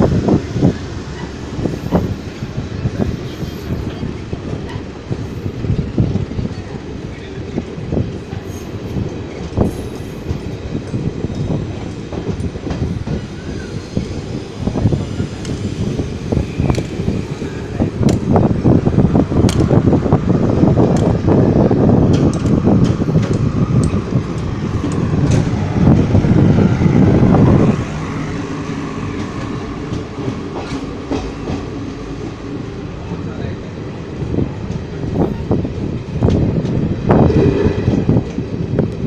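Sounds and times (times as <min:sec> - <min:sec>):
rail clicks: 0:00.0 - 0:39.0
train wheels rumbling on rail: 0:00.0 - 0:39.0.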